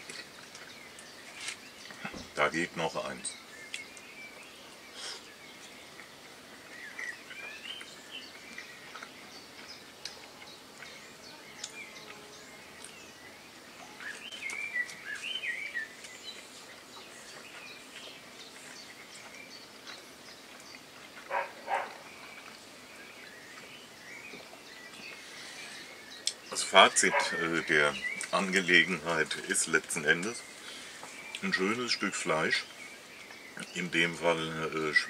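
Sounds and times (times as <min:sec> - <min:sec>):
faint outdoor hiss: 0:00.0 - 0:35.0
songbirds singing: 0:00.0 - 0:35.0.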